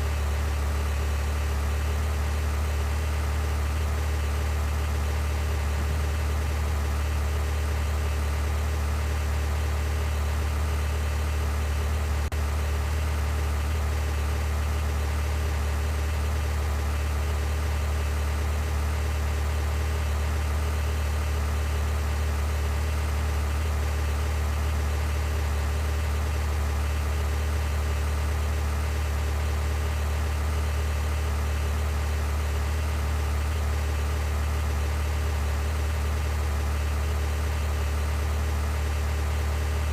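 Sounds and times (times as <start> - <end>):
vehicle engine drone: 0.0 - 39.9.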